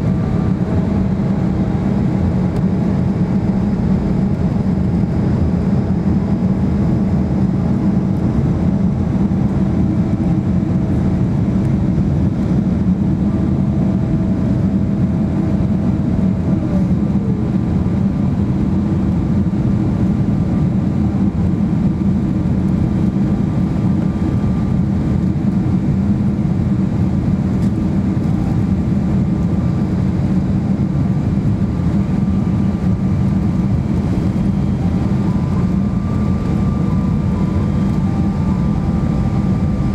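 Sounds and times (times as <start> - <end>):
airplane cabin airflow rush: 0.0 - 39.9
jet engine hum: 0.0 - 39.9.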